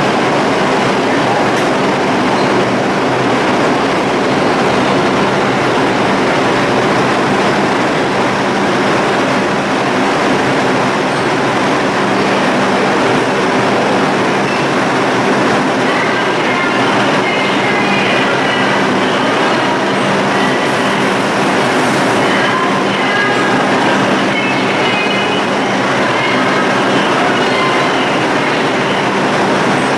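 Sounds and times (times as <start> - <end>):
subway train wheels rumbling: 0.0 - 29.9.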